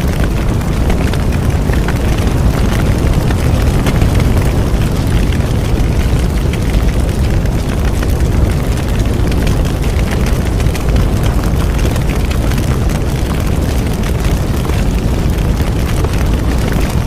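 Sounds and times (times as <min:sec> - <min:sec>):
bonfire burning and crackling: 0:00.0 - 0:17.0.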